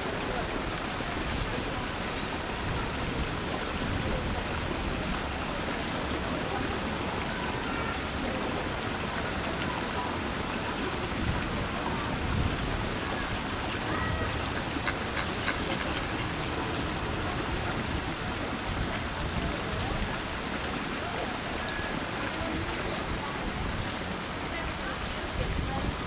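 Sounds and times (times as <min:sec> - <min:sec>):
steady outdoor background hiss: 0:00.0 - 0:26.0.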